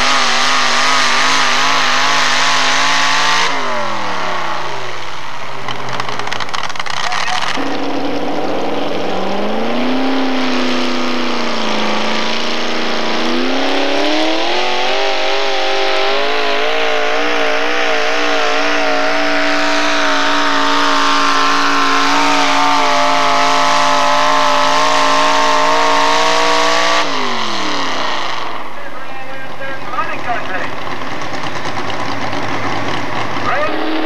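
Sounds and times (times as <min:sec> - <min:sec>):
truck engine revving under load: 0:00.0 - 0:34.0.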